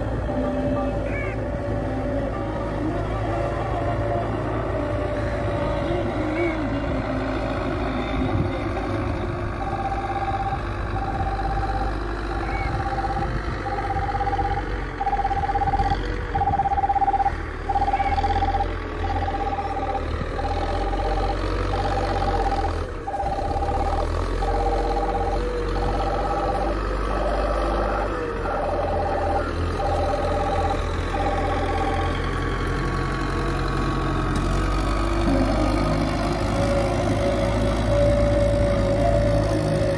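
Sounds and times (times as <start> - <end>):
tractor diesel engine running: 0.0 - 39.9
high beeping tone: 0.2 - 32.4, 35.2 - 39.9.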